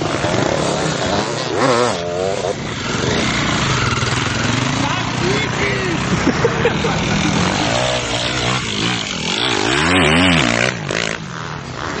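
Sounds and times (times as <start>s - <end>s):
dirt bike engine revving: 0.0s - 12.0s
other bikes running: 0.0s - 12.0s.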